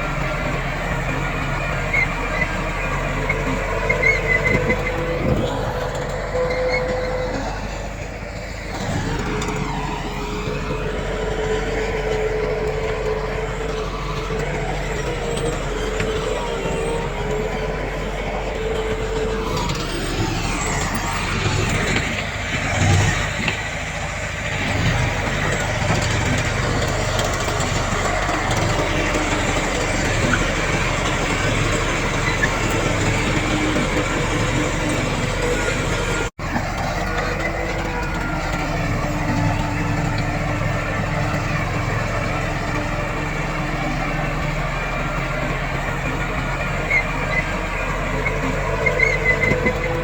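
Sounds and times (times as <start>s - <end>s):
diesel earthmoving machinery running: 0.0s - 50.0s.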